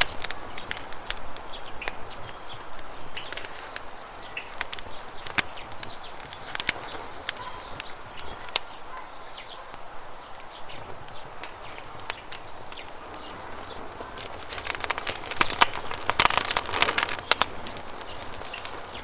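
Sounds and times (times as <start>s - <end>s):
bird chirps: 0.0s - 19.0s
campfire crackling and popping: 0.0s - 19.0s.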